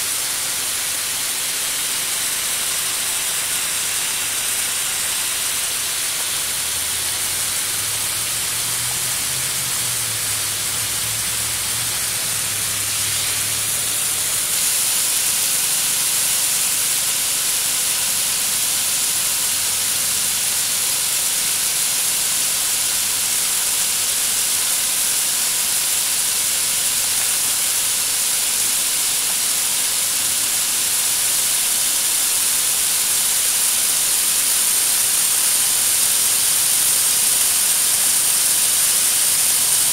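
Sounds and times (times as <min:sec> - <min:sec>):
snowmaking gun hissing: 0:00.0 - 0:39.9.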